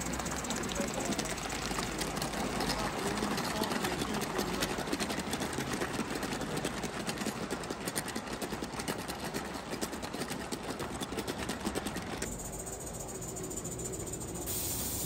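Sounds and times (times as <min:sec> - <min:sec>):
model steam locomotive exhaust beats: 0:00.0 - 0:15.0.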